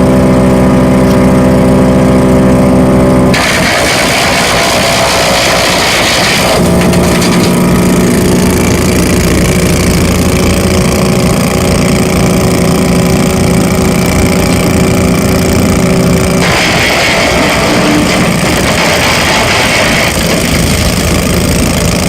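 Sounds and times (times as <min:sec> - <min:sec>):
wood chipper engine running: 0:00.0 - 0:22.0.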